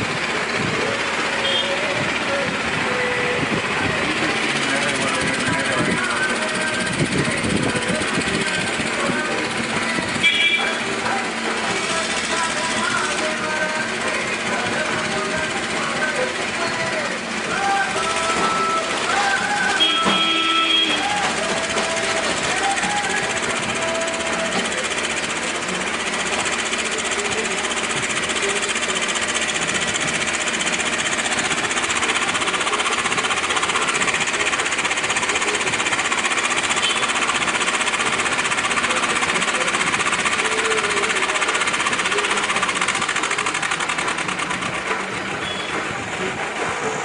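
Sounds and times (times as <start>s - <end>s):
excavator diesel engine revving: 0.0s - 47.0s
hydraulics chatter: 0.0s - 47.0s.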